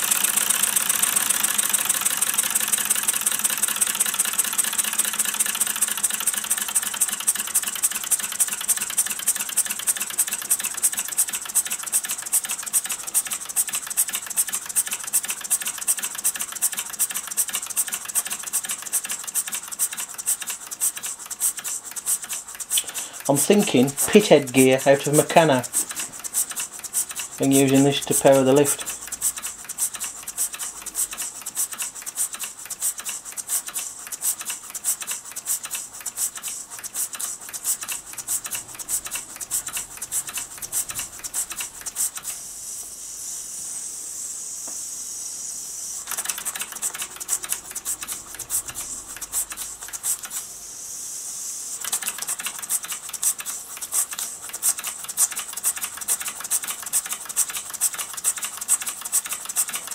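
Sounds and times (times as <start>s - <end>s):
steam engine exhaust clicking: 0.0s - 42.5s, 46.0s - 50.5s, 51.8s - 59.9s
steam hiss: 0.0s - 59.9s.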